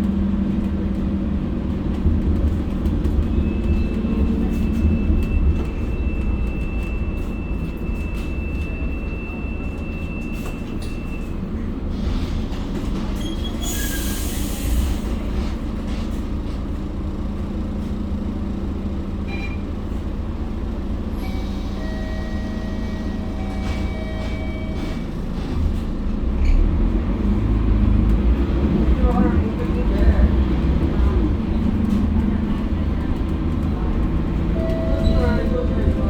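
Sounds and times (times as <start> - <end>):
bus engine drone: 0.0 - 36.0.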